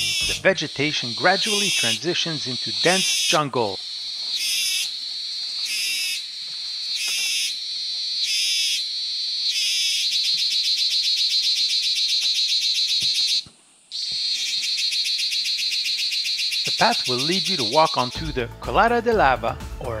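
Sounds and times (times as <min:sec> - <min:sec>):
cicadas buzzing: 0:00.0 - 0:18.2.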